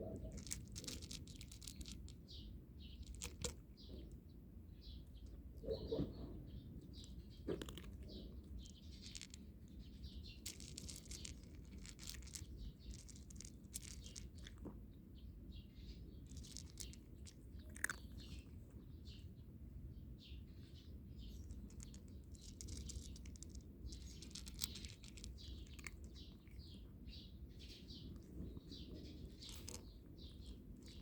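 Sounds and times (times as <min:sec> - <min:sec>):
cat crunching dry kibble: 0:00.0 - 0:04.2, 0:06.8 - 0:14.8, 0:15.8 - 0:19.1, 0:20.6 - 0:31.0
birds chirping: 0:00.0 - 0:31.0.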